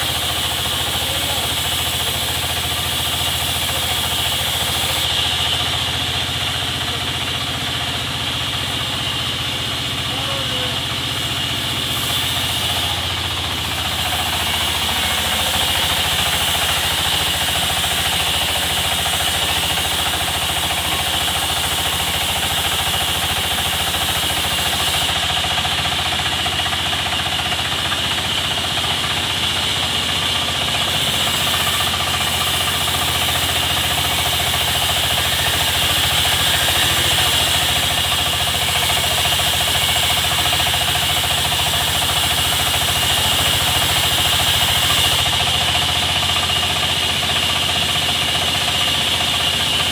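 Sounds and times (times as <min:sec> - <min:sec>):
sawmill machinery droning: 0:00.0 - 0:49.9.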